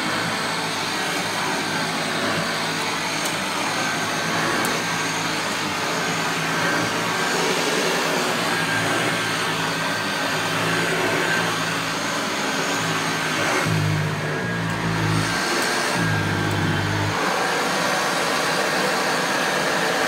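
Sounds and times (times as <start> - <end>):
upright vacuum cleaner running: 0.0 - 20.0.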